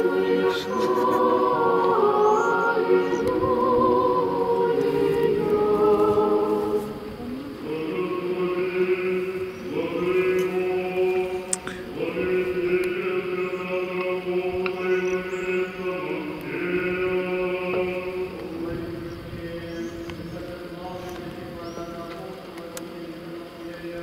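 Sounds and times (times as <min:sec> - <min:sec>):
choir singing chant: 0:00.0 - 0:24.0.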